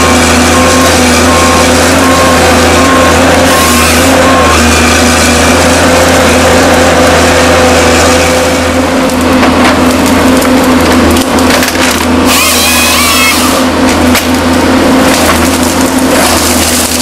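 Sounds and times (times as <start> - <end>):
harvester engine running: 0.0 - 17.0
wood cracking and splintering: 0.0 - 17.0.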